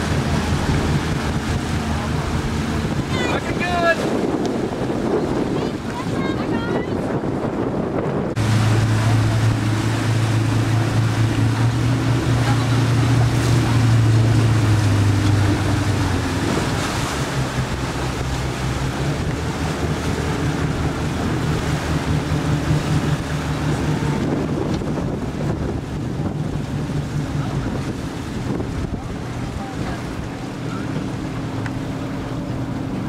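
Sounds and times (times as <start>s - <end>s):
wind noise on microphone: 0.0s - 31.1s
boat motor humming: 0.0s - 33.0s
rushing water: 0.0s - 33.0s.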